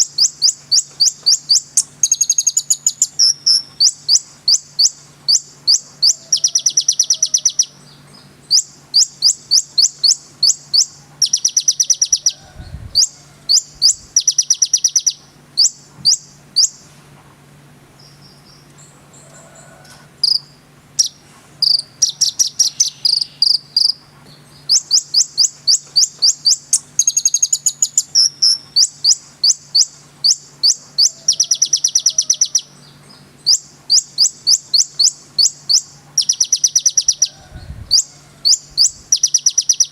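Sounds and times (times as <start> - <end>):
bird chips and trills: 0.0 - 16.9, 20.2 - 39.9
faint low hum: 0.0 - 39.9.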